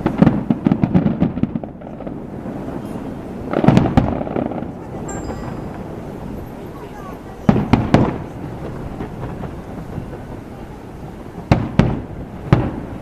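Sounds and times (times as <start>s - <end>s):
fireworks bursting in bangs: 0.0s - 13.0s.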